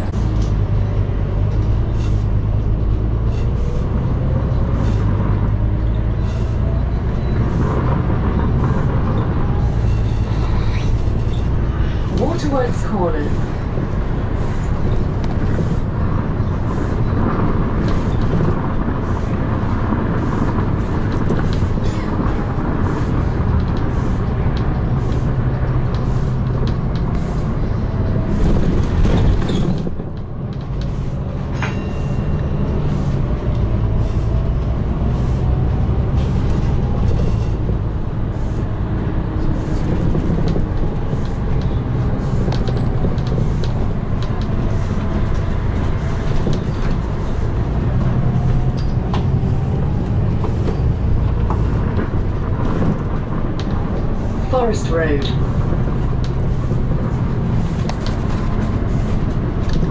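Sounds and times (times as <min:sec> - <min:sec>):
bus engine running: 0:00.0 - 0:59.9
road noise: 0:00.0 - 0:59.9.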